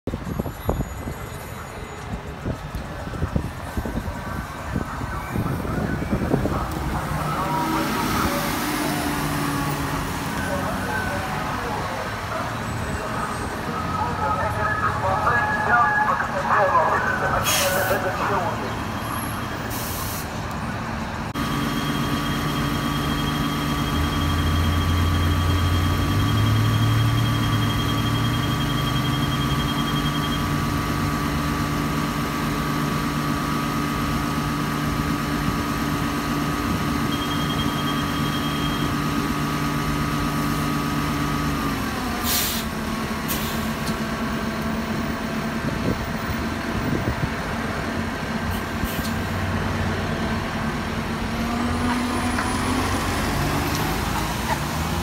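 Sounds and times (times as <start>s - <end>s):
bus engine hum with whine: 0.0s - 55.0s.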